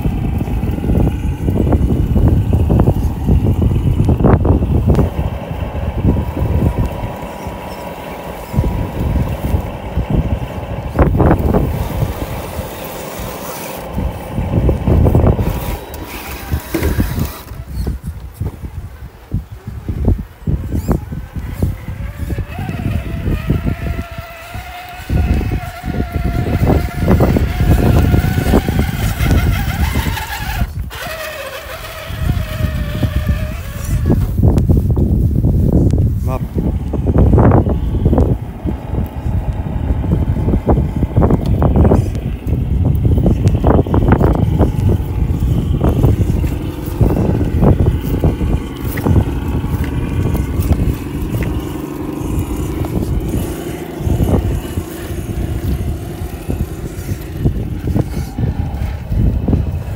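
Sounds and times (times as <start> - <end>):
strong low rumble: 0.0 - 30.9, 31.8 - 59.9
electric motor and gearbox whine: 0.0 - 59.9.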